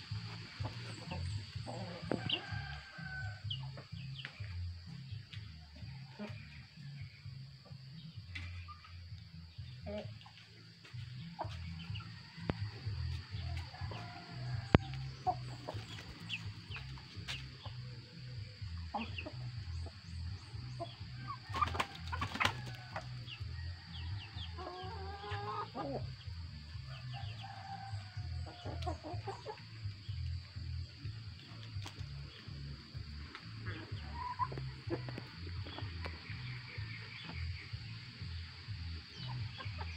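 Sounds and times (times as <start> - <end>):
chickens clucking: 0.1 - 4.8, 9.7 - 39.9.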